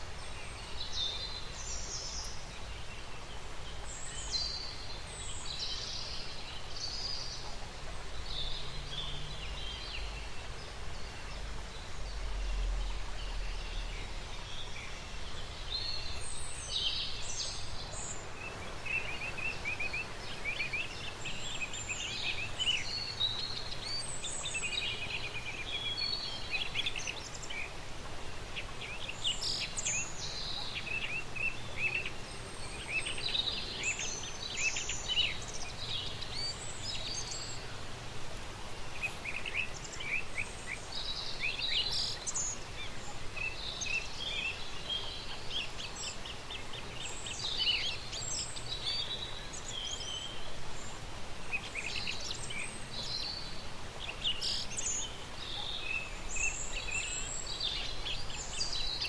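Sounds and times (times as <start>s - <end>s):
songbirds chirping: 0.0s - 59.0s
steady background hiss: 0.0s - 59.0s.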